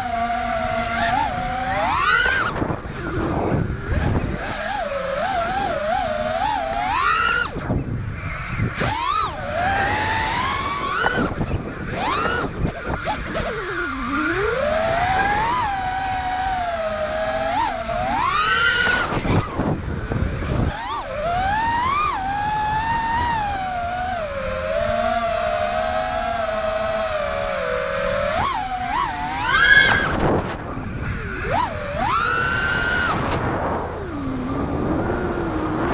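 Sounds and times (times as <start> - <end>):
drone propellers whining: 0.0 - 35.9.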